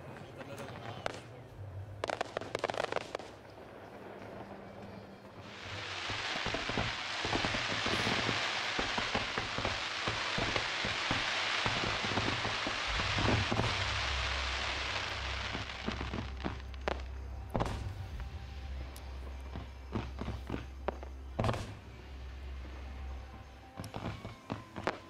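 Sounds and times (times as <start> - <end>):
fireworks crackling: 0.0 - 25.0
firework bangs: 2.0 - 4.7, 5.4 - 18.4, 19.5 - 22.7, 23.8 - 25.0.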